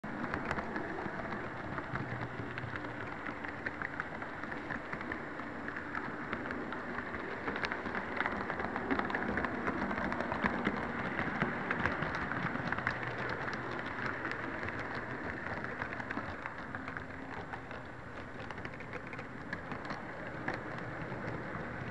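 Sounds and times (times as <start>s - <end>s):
model train wheels rattling: 0.1s - 21.9s.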